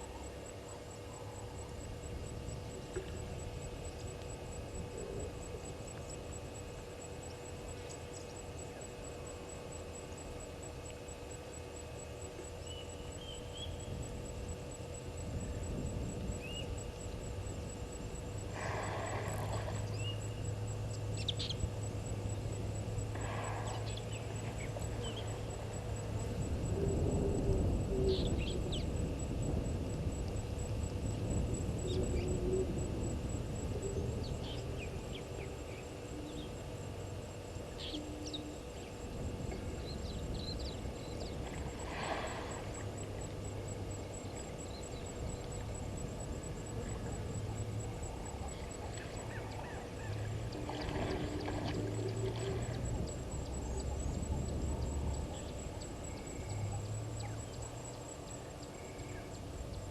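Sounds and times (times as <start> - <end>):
low rumble of wind: 0.0 - 59.9.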